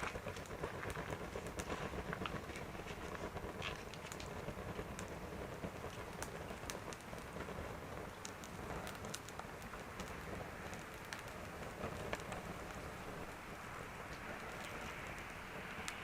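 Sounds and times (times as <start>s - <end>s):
wind rumble on microphone: 0.0s - 16.0s
wood stove fire crackling: 0.0s - 16.0s.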